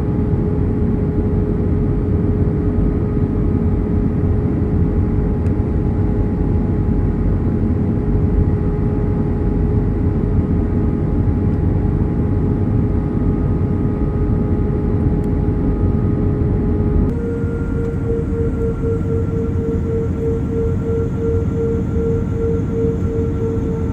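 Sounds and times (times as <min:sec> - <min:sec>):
steady hum tone: 0:00.0 - 0:23.9.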